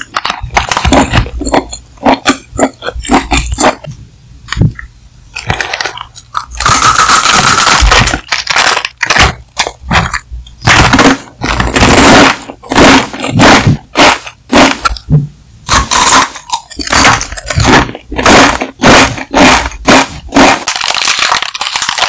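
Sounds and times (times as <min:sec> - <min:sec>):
crunching crispy snack: 0:00.0 - 0:03.9, 0:05.3 - 0:15.0, 0:15.7 - 0:22.0.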